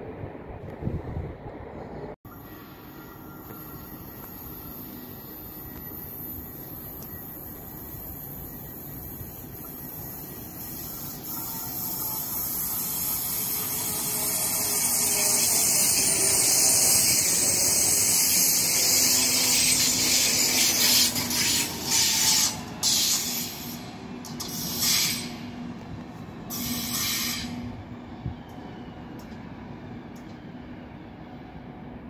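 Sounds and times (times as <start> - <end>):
train passing: 0.0 - 32.0
wheels hissing on rail: 2.3 - 25.8, 26.5 - 29.2.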